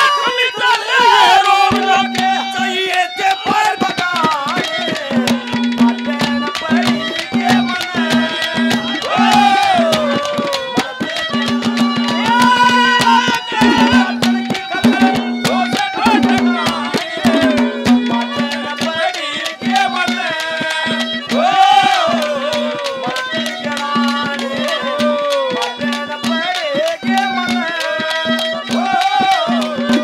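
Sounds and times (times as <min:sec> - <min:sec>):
hand drums beating fast: 0:00.0 - 0:30.0
sliding melody line: 0:00.6 - 0:30.0.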